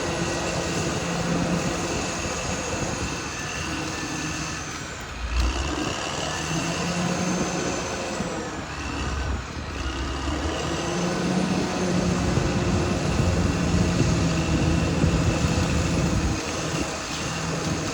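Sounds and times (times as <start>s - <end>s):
bulldozer diesel engine: 0.0s - 17.9s.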